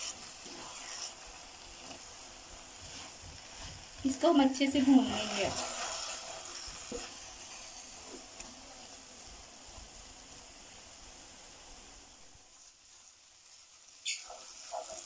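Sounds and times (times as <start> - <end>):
faint sizzling in a pan: 0.0 - 15.0.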